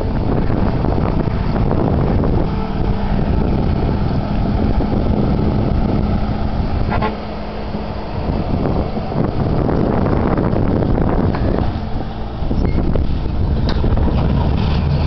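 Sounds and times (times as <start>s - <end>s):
steady hum: 0.0s - 14.2s.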